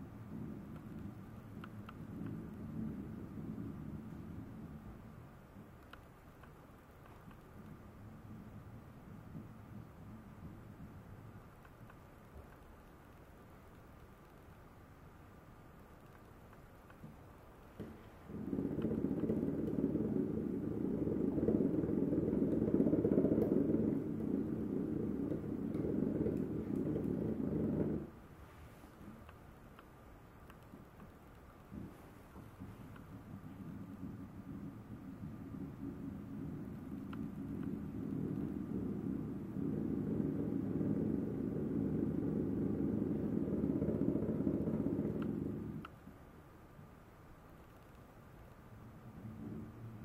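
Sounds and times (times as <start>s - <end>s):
bouncy ball whirling on hardwood floor: 0.0s - 12.8s, 16.2s - 29.4s, 30.4s - 46.1s, 47.7s - 50.0s.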